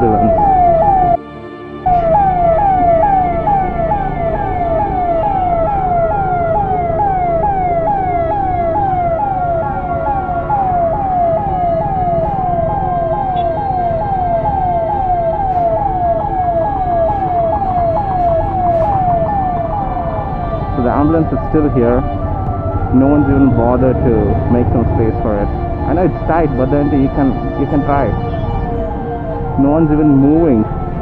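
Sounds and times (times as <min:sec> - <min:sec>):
traffic rumble: 0:00.0 - 0:01.2, 0:01.9 - 0:31.0
ambulance siren wailing: 0:00.0 - 0:31.0.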